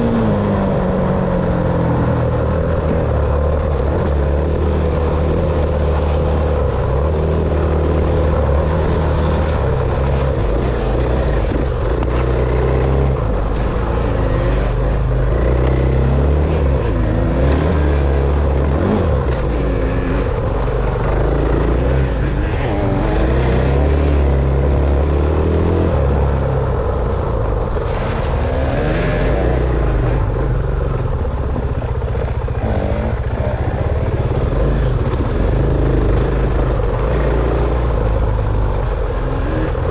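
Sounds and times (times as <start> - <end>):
dirt bike engine revving: 0.0 - 26.9, 27.6 - 39.9.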